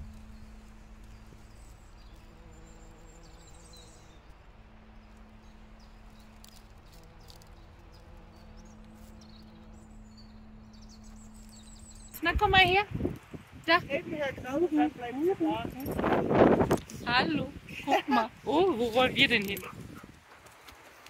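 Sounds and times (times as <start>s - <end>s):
steady low hum: 0.0s - 18.6s
small birds chirping: 0.0s - 21.0s.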